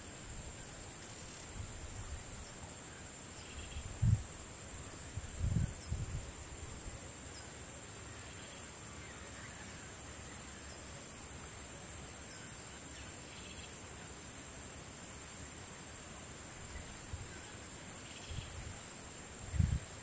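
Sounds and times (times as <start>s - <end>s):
low hiss: 0.0s - 20.0s.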